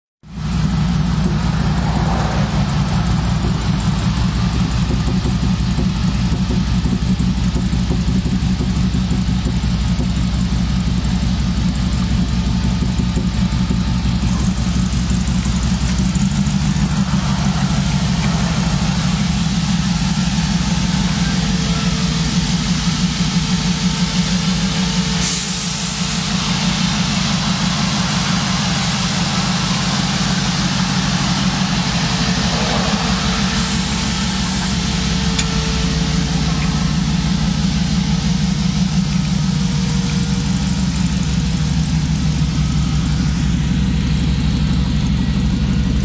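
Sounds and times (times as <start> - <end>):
pickup engine idling: 0.2 - 46.0.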